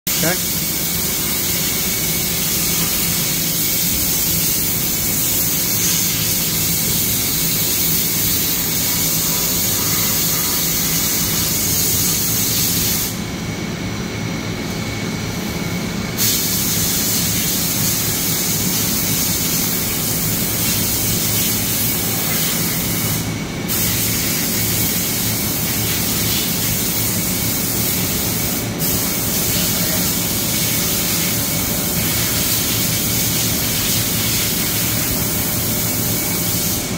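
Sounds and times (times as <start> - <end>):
low machine hum: 0.1 - 36.9.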